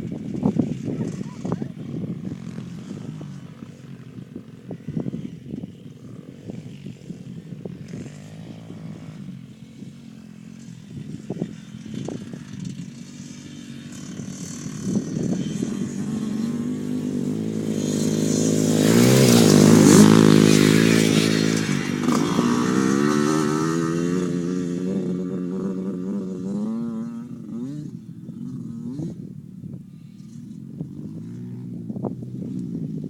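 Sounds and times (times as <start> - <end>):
dirt bike engine revving: 0.0 - 29.3.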